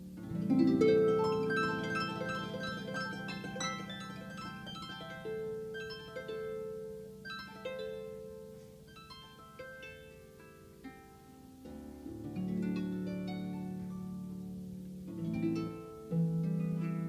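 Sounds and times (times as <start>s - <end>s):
harp played softly: 0.0s - 17.0s.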